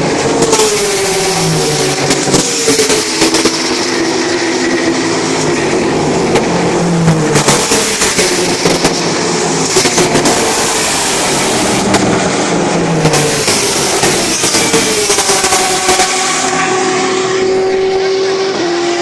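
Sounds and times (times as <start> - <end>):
race cars passing at full throttle: 0.0 - 19.0.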